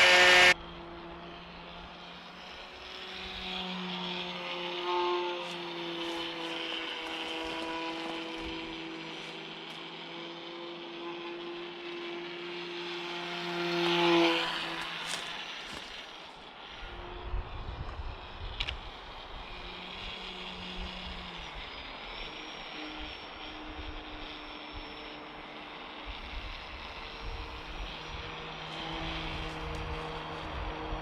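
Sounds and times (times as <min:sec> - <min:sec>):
rc plane electric motor whine: 0:00.0 - 0:31.0.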